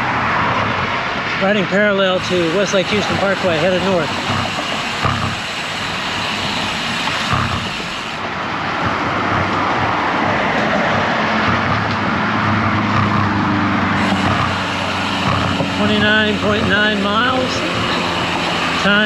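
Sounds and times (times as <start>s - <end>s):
wind rush: 0.0s - 18.8s
motor traffic passing: 0.0s - 19.0s.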